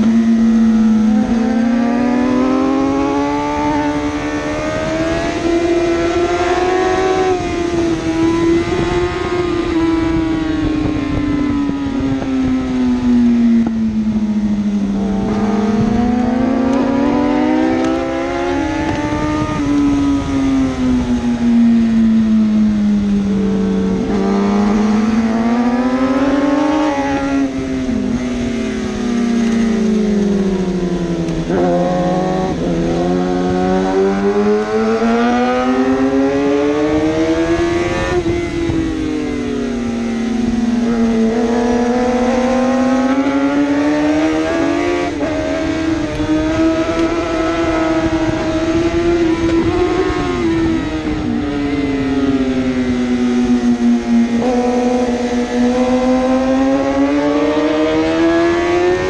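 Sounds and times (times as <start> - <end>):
superbike engine accelerating: 0.0 - 59.0.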